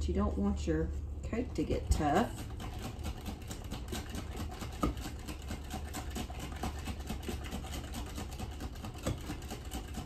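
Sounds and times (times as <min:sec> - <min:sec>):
steady low hum: 0:00.0 - 0:10.0
whisk beating batter in glass bowl: 0:01.5 - 0:10.0.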